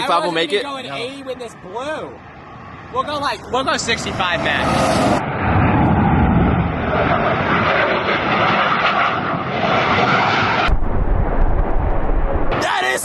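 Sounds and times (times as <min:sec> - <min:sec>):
airplane flying overhead: 0:00.0 - 0:10.7.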